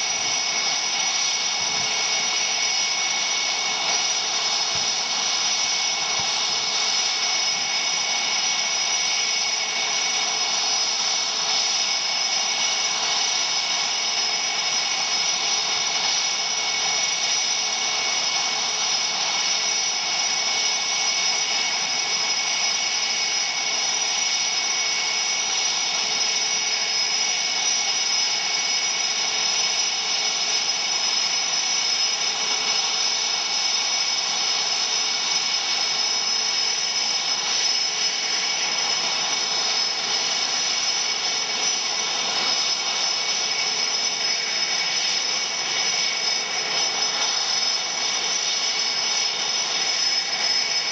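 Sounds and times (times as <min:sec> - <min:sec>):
jet engines idling whine: 0:00.0 - 0:50.9.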